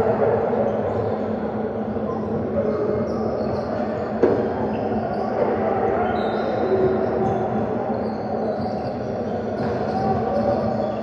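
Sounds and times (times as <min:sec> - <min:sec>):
echoing gymnasium noise: 0:00.0 - 0:11.0.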